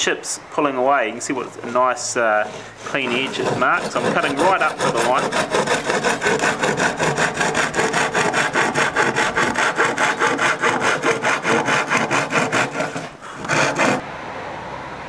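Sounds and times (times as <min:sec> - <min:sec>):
handsaw cutting plywood: 0:02.0 - 0:14.0.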